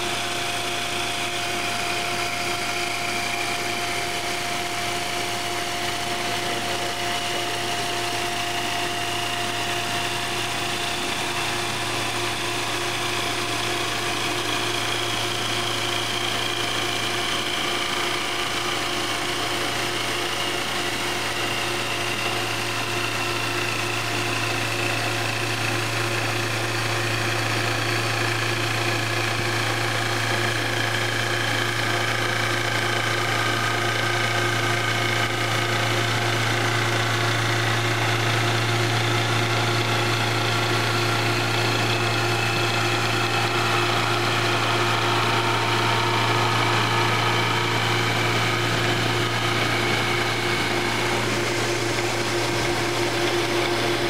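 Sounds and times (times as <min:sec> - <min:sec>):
lathe machine hum: 0:00.0 - 0:54.0
knives cutting wood whining: 0:00.1 - 0:54.0.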